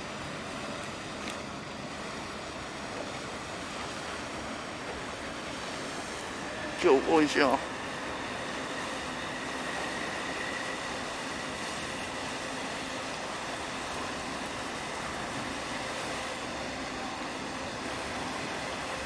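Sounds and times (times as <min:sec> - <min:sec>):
faint high whine: 0:00.0 - 0:19.0
ship engine rumble: 0:00.0 - 0:19.0.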